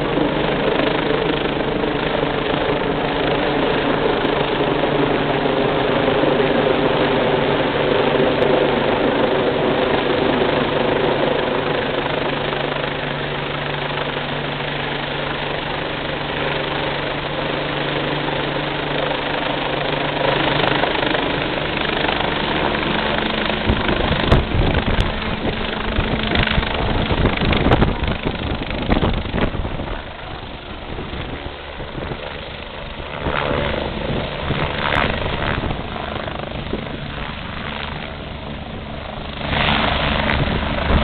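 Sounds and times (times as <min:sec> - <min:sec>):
helicopter rotor and turbine: 0:00.0 - 0:41.0.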